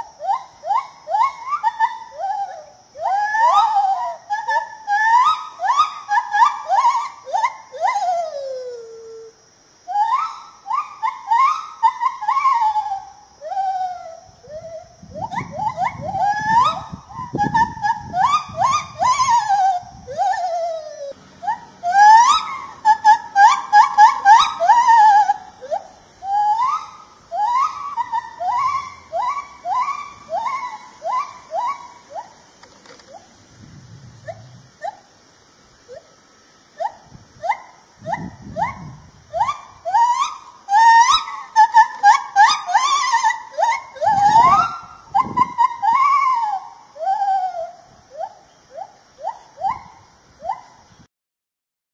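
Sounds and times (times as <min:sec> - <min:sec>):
gibbon whooping calls: 0:00.0 - 0:33.3, 0:34.2 - 0:35.2, 0:35.8 - 0:50.9
low background noise: 0:00.0 - 0:51.1.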